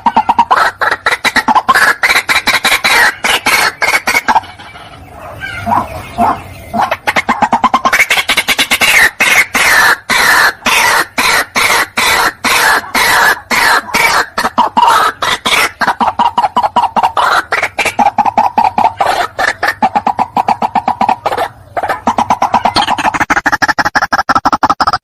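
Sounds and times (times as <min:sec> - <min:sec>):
harsh bird calls: 0:00.0 - 0:24.4.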